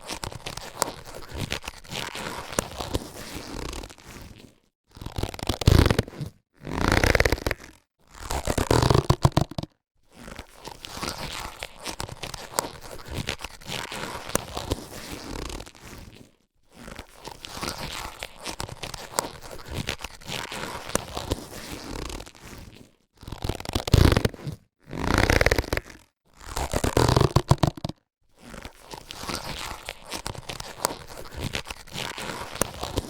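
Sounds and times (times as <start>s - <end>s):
latex gloves rubbing and clicking: 0.0s - 33.0s.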